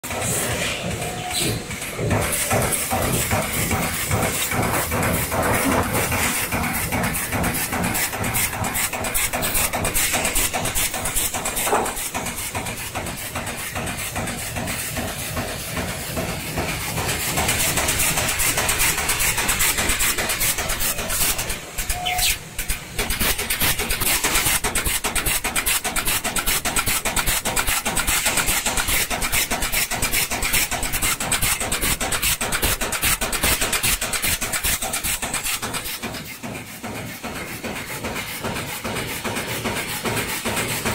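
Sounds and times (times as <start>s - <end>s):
steady machine hiss: 1.6s - 40.9s.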